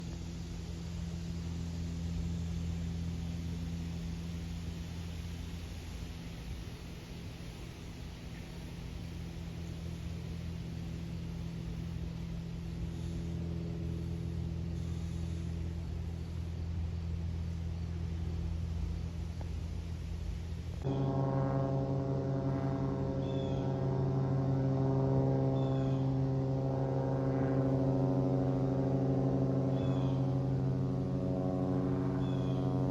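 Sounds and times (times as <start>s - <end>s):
propeller plane engine droning: 0.0s - 32.9s.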